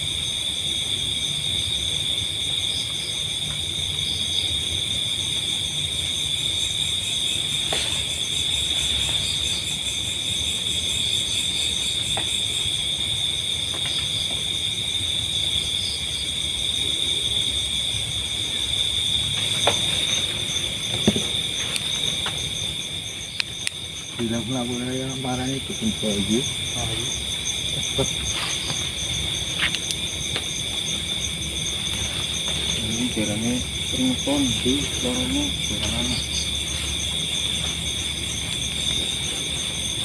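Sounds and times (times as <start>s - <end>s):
crickets and insects trilling: 0.0s - 40.0s.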